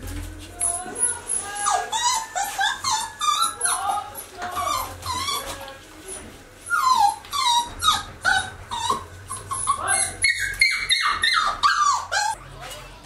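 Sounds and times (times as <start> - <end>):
puppy whimpering: 0.6 - 12.4.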